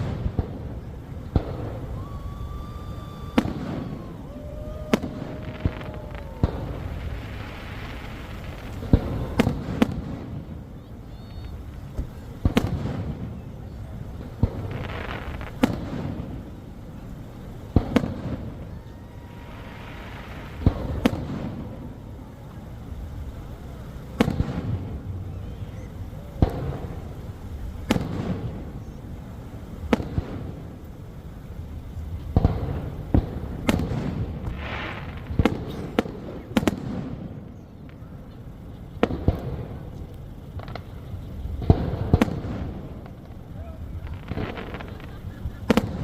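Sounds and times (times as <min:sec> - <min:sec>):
fireworks bangs: 0:00.0 - 0:46.0
low rumbling echo: 0:00.0 - 0:46.0.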